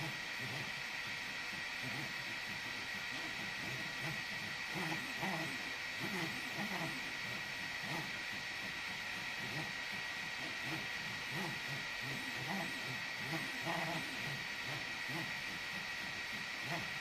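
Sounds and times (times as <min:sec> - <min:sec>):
printer stepper motors whirring: 0:00.0 - 0:17.0.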